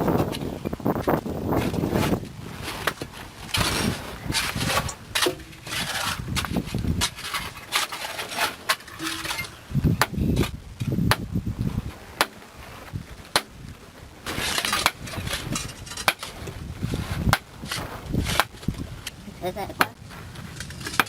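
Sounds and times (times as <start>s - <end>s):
digging tools knocking and scraping: 0.2s - 11.3s, 12.1s - 13.6s, 14.2s - 19.2s, 19.8s - 21.0s.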